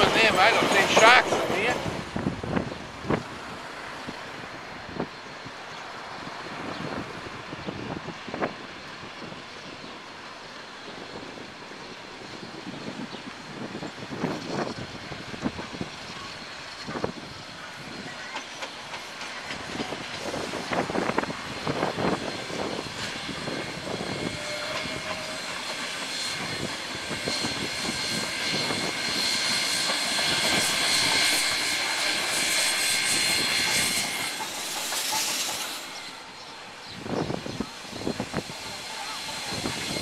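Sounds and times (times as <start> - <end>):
steam train passing: 0.0 - 40.0.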